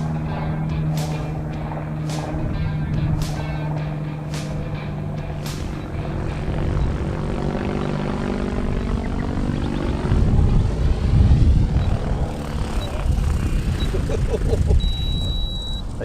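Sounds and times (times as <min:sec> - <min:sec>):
low rumble: 0:00.0 - 0:16.0
toy helicopter motor humming: 0:00.0 - 0:16.0.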